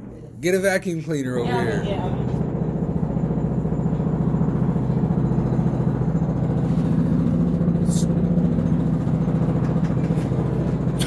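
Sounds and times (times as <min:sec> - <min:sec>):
jackhammer pounding: 0:00.0 - 0:11.0.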